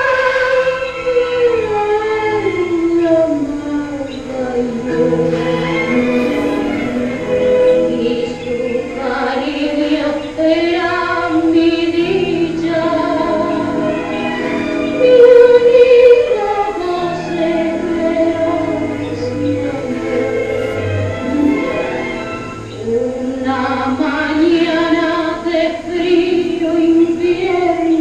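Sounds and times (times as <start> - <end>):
musical accompaniment: 0.0 - 25.2
woman singing with vibrato: 0.0 - 28.0.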